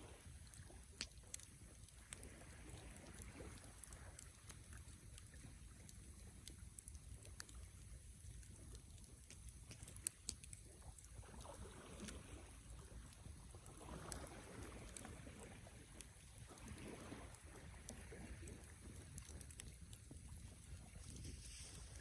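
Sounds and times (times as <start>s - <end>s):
campfire crackling and popping: 0.1s - 22.0s
low rumble of fire: 0.1s - 22.0s.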